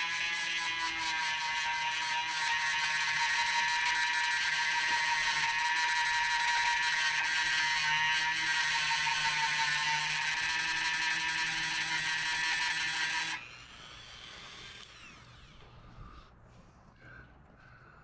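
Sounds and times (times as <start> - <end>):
small electric tool whining: 0.0 - 16.1.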